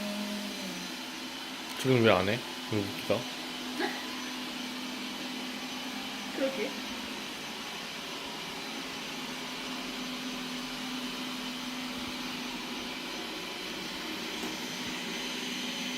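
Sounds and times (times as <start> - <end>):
robot vacuum whirring: 0.0 - 15.9.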